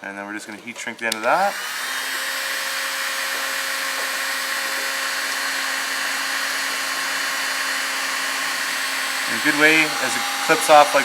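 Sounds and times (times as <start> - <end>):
heat gun blowing air: 1.0 - 11.0.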